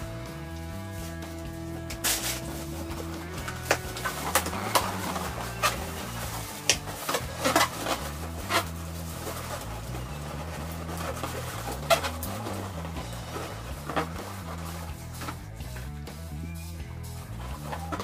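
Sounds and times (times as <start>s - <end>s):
balloons squeaking and rubbing: 0.0s - 15.9s, 16.5s - 18.0s
soft background music: 0.0s - 18.0s.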